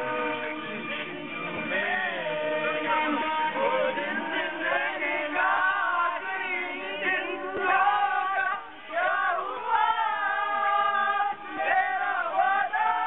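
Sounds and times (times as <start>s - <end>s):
group of people singing: 0.0s - 13.0s.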